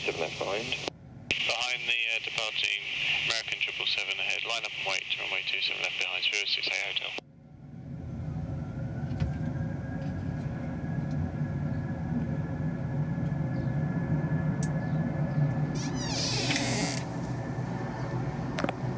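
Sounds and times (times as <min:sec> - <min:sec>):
faint steady whine: 0:00.0 - 0:18.9
jet engines rumbling: 0:00.0 - 0:18.9.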